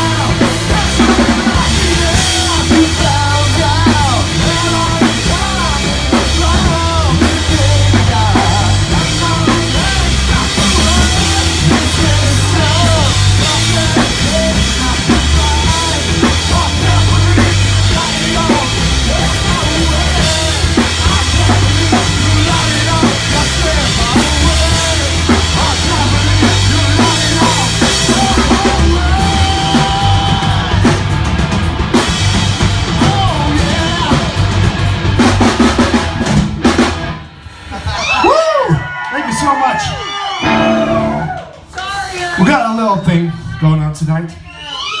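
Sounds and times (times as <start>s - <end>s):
rock band playing instrumental: 0.0s - 38.4s, 39.8s - 42.8s
loud drum kit: 0.0s - 39.0s, 39.8s - 42.8s.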